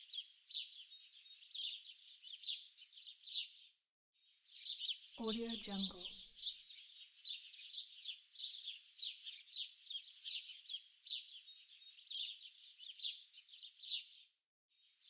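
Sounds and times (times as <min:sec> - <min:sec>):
songbirds singing: 0:00.0 - 0:03.7, 0:04.3 - 0:15.0.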